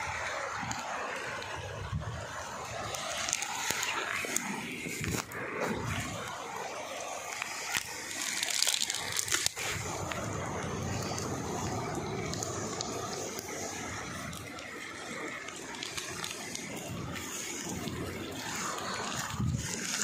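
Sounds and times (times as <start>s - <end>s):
dry stalks crackling and rustling: 0.0s - 20.0s
floodwater running: 0.0s - 20.0s.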